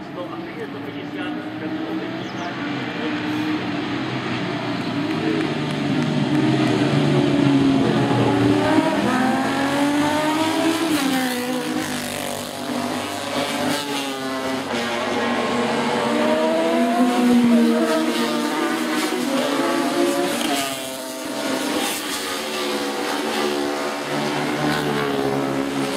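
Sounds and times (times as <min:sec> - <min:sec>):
racing motorcycles passing: 0:00.1 - 0:25.9.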